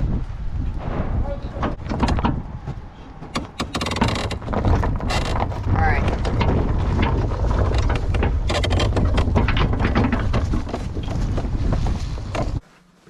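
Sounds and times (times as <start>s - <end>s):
wind rumbling on microphone: 0.0s - 12.6s
knocks and rattles: 0.6s - 12.6s.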